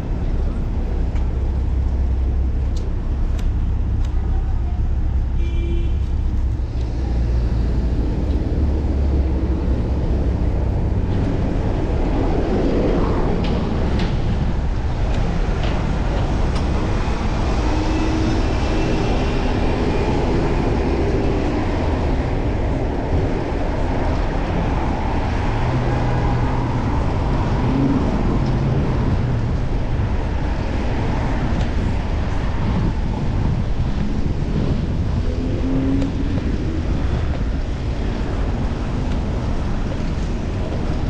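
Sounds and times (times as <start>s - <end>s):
passing motor vehicles humming: 0.0s - 41.0s
wind noise on microphone: 0.0s - 41.0s.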